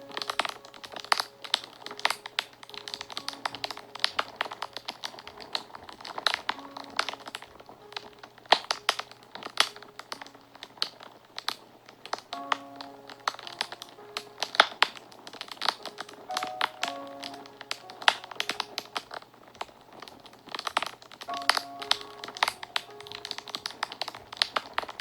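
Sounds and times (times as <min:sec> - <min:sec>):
fire crackling and popping: 0:00.0 - 0:25.0
soft background music: 0:00.0 - 0:25.0.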